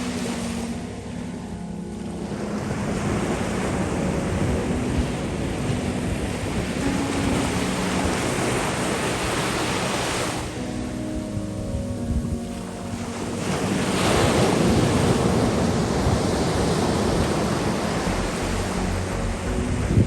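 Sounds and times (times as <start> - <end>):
heavy surf breaking: 2.2 - 20.0.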